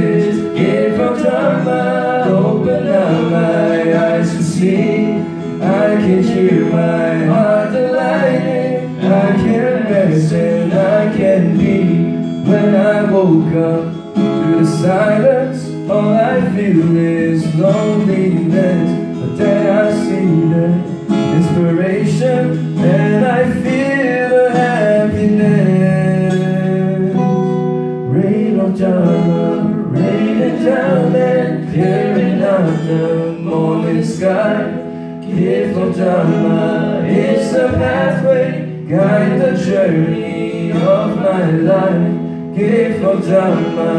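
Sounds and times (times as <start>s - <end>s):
acoustic guitar strummed: 0.0s - 43.9s
man singing: 0.0s - 43.9s.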